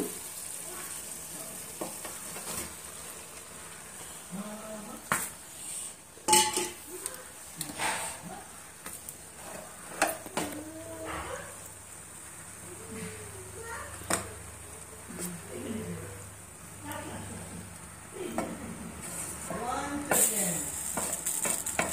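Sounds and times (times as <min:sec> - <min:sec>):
faint pan sizzle: 0:00.0 - 0:21.9.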